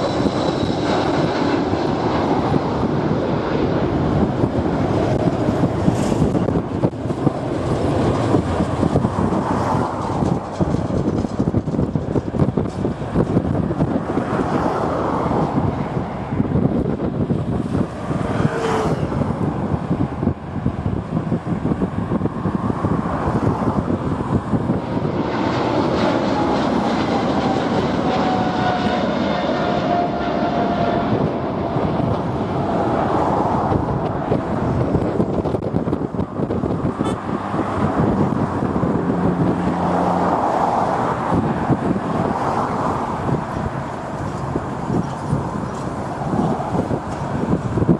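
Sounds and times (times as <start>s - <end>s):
jet engine whine: 0.0s - 47.9s
jet engines rumbling: 0.0s - 47.9s
road traffic: 0.0s - 47.9s
wind buffeting microphone: 0.0s - 47.9s.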